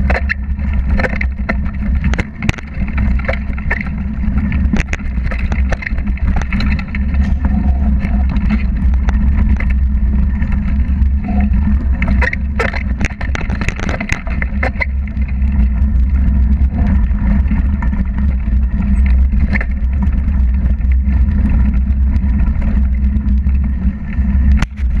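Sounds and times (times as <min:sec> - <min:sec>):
bike clicks and rattles: 0:00.0 - 0:25.0
tyres rumbling on dirt: 0:00.0 - 0:25.0
wind buffeting camera: 0:00.0 - 0:25.0.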